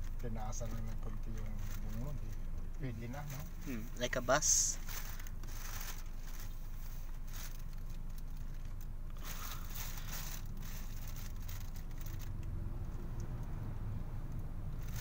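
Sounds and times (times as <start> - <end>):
faint crackling rustles: 0.0 - 13.5, 14.3 - 15.0.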